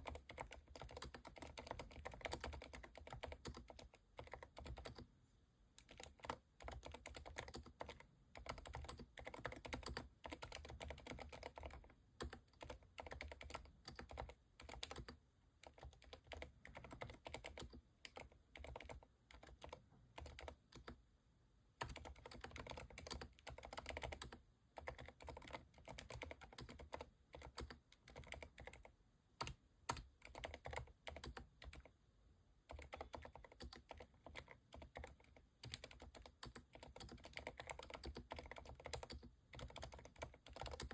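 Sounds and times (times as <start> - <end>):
soft mechanical keyboard typing: 0.0 - 5.1, 5.7 - 21.0, 21.8 - 40.9.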